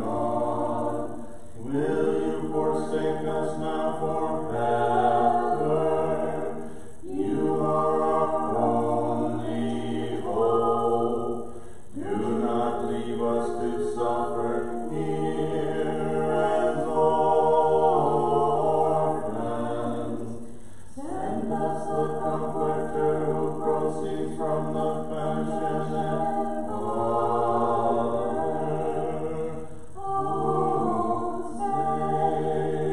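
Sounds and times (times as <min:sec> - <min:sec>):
choir chanting a cappella: 0:00.0 - 0:32.9
low voices holding long notes: 0:00.0 - 0:32.9.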